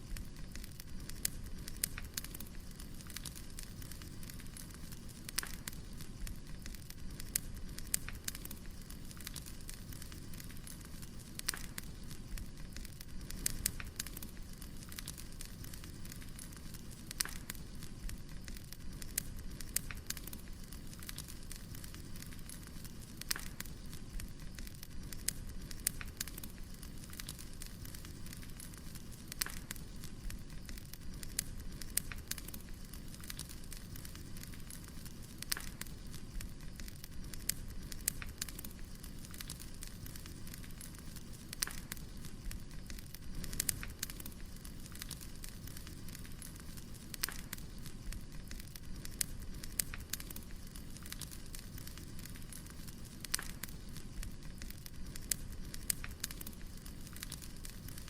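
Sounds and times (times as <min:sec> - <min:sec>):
firewood crackling and popping: 0:00.0 - 0:58.0
low rumble of fire: 0:00.0 - 0:58.0.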